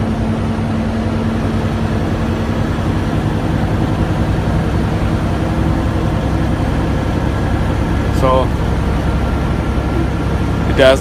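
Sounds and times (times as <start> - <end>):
low tone: 0.0 - 11.0
road noise: 0.0 - 11.0
truck engine drone: 0.0 - 11.0.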